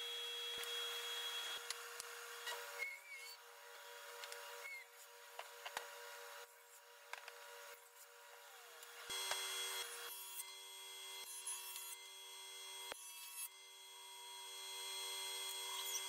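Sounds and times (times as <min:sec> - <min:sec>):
table saw cutting timber: 0:00.0 - 0:04.8, 0:07.4 - 0:16.0.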